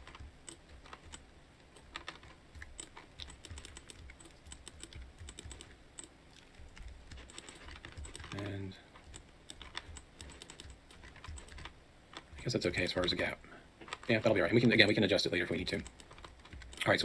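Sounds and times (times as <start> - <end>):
keyboard keys clicking: 0.0 - 13.2, 15.7 - 16.9.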